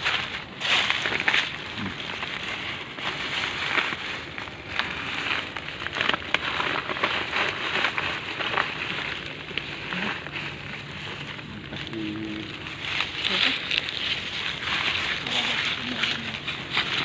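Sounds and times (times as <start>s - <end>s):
leaves rustling and crackling: 0.0s - 17.0s.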